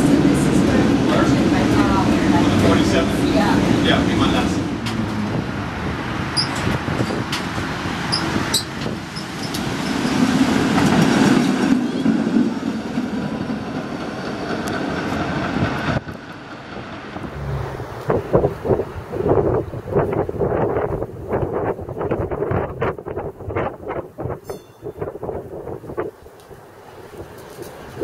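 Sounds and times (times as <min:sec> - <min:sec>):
streetcar rumbling on rails: 0:00.0 - 0:28.0.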